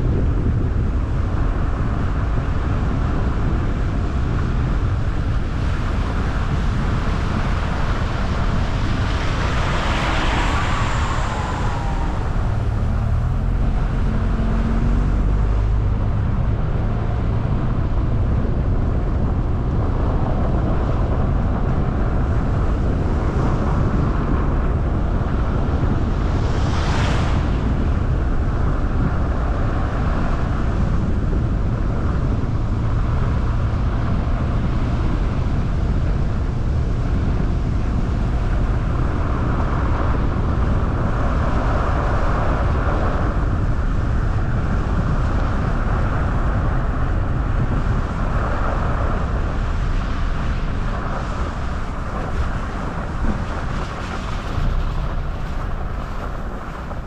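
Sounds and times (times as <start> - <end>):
car tyre and wind noise: 0.0 - 57.0.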